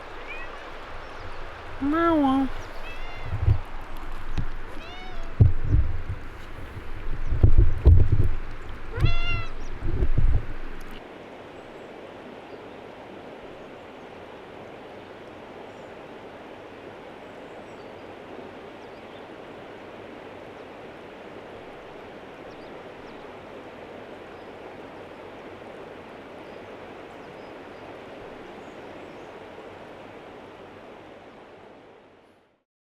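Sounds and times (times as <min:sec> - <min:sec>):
river water rushing: 0:00.0 - 0:07.3, 0:07.9 - 0:32.4.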